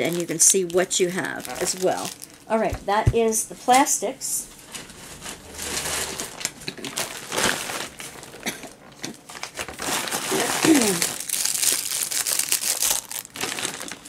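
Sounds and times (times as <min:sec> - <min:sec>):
plastic bag crinkling: 0:00.0 - 0:02.8, 0:04.5 - 0:14.0.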